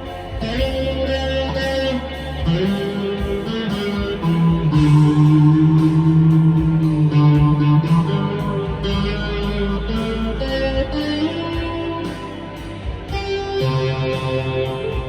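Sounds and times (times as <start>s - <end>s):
electric guitar picking notes: 0.0s - 15.0s.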